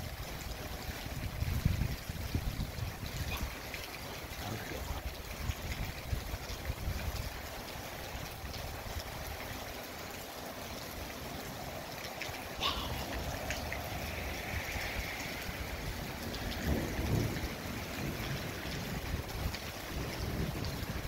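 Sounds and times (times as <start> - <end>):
steady rain: 0.0 - 21.0
water drips: 0.0 - 21.0.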